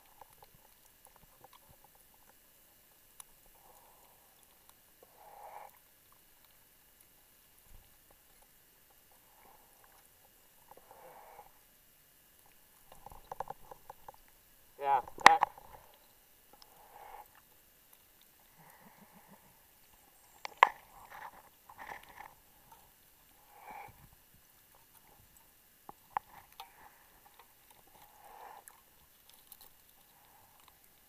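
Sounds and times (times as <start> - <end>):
underwater scrapes and rustles: 0.1 - 19.0, 19.8 - 31.0.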